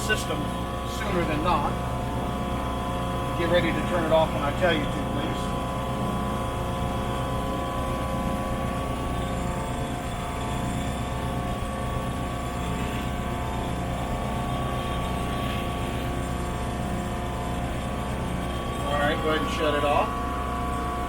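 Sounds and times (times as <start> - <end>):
boat engine running: 0.0 - 21.0
constant whine: 0.0 - 21.0
pump droning: 0.0 - 21.0.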